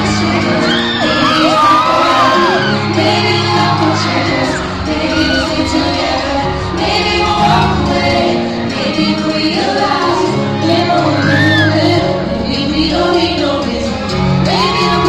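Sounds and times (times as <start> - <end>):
fans shrieking and cheering: 0.0 - 15.0
live pop song over pa: 0.0 - 15.0.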